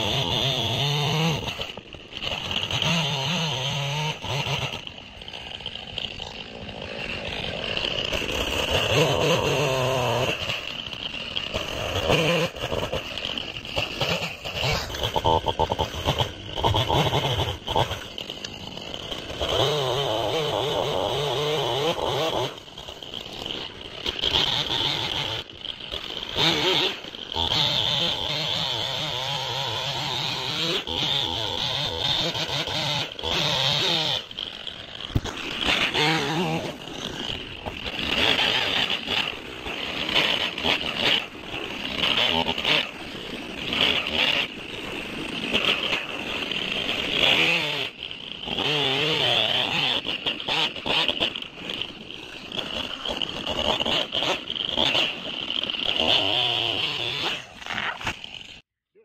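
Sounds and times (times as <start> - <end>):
chainsaw cutting wood: 0.0 - 58.7.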